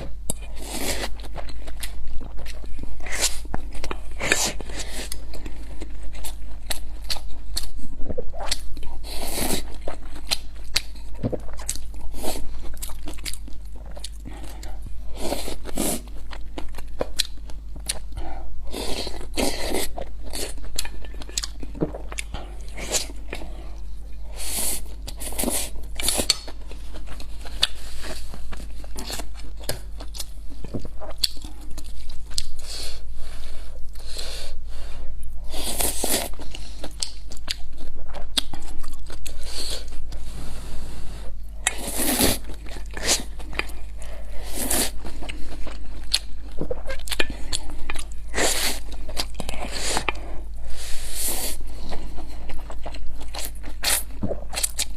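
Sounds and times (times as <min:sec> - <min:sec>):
chewing and smacking mouth noises: 0:00.0 - 0:32.6, 0:35.8 - 0:40.2, 0:41.4 - 0:50.7, 0:51.6 - 0:54.9.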